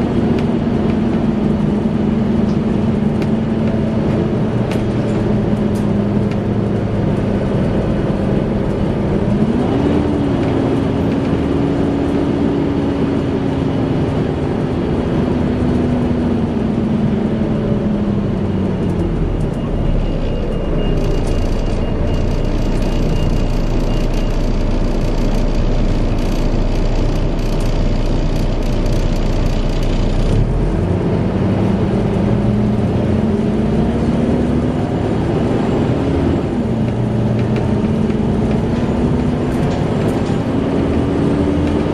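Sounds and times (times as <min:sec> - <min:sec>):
bus engine idling: 0:00.0 - 0:41.9.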